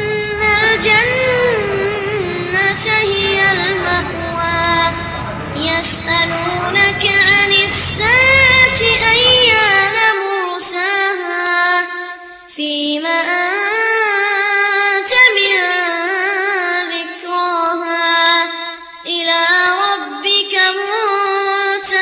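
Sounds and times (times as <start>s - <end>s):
high voice singing unaccompanied: 0.0s - 22.0s.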